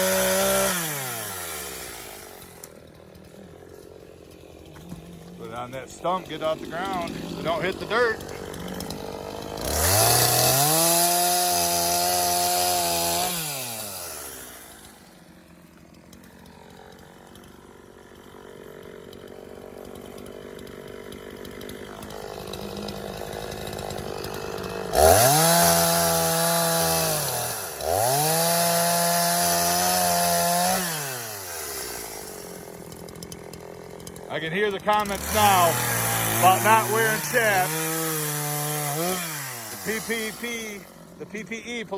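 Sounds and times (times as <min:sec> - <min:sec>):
chainsaw cutting and idling: 0:00.0 - 0:41.9.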